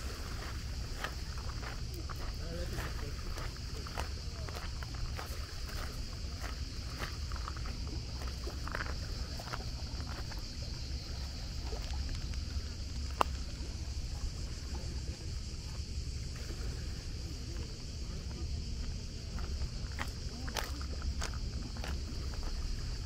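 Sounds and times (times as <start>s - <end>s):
high hiss: 0.0s - 23.0s.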